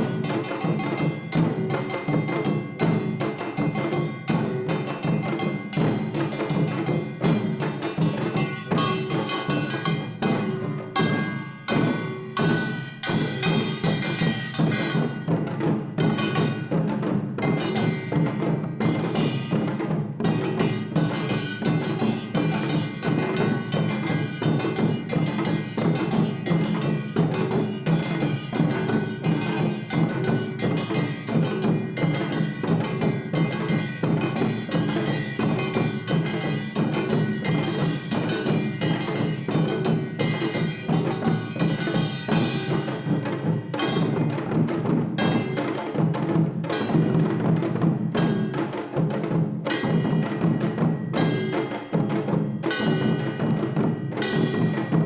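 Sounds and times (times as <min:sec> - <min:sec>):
drums beating: 0:00.0 - 0:55.0.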